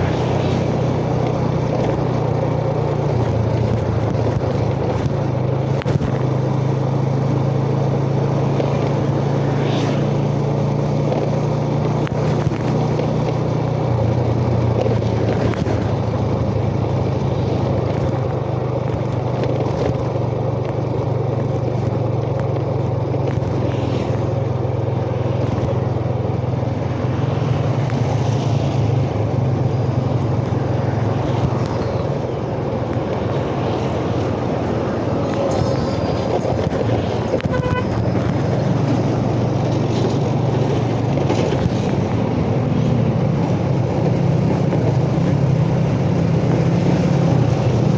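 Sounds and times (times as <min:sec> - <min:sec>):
motorcycle engine running: 0:00.0 - 0:47.9
wind noise: 0:00.0 - 0:47.9.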